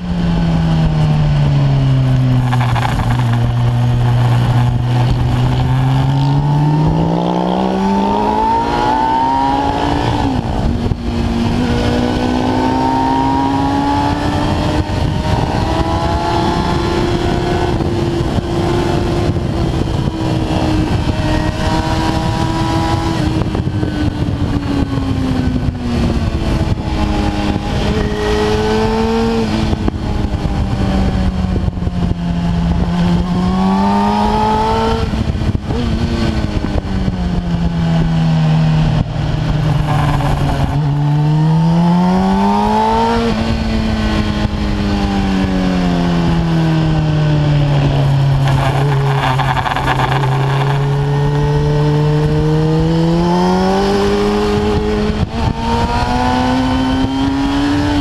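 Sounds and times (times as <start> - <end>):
motorcycle engine revving: 0.0 - 58.0
wind noise on microphone: 0.0 - 58.0.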